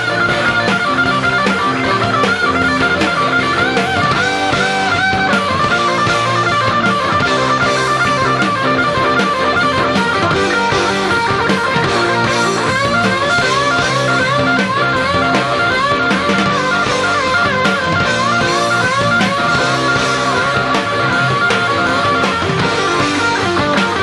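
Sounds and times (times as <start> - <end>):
lead electric guitar licks: 0.0 - 24.0
live rock band: 0.0 - 24.0.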